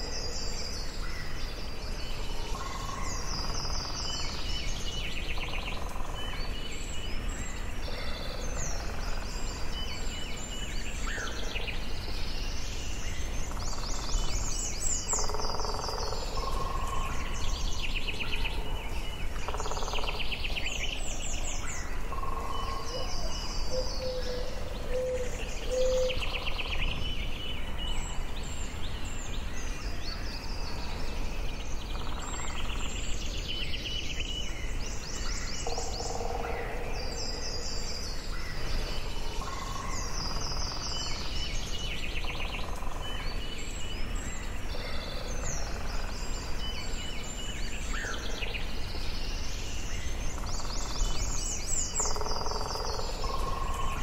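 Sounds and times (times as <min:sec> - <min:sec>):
birds singing and chirping: 0:00.0 - 0:54.0.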